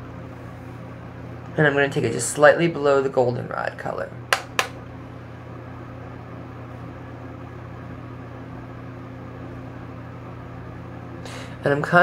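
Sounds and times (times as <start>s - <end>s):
low electric hum with hiss: 0.0s - 12.0s.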